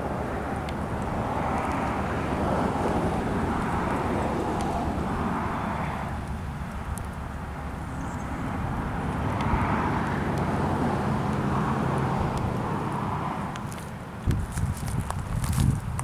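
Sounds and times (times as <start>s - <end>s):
distant engine drone: 0.0s - 14.3s.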